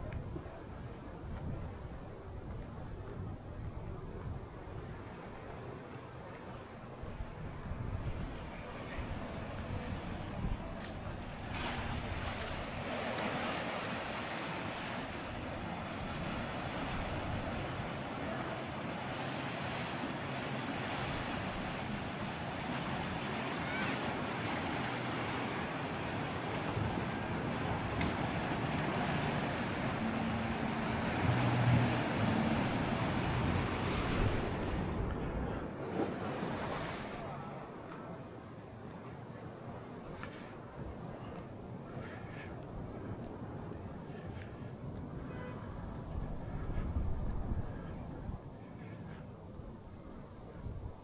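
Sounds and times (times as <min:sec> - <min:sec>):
sea surf washing: 0:06.5 - 0:50.9.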